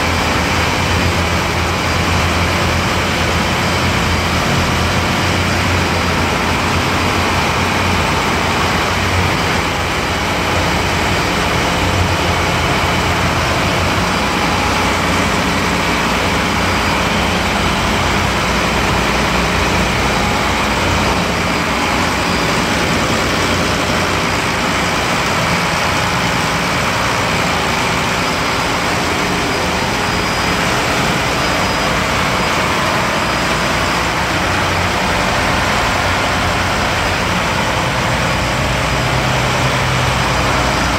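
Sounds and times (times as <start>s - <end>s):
boat engine running loud: 0.0s - 40.9s.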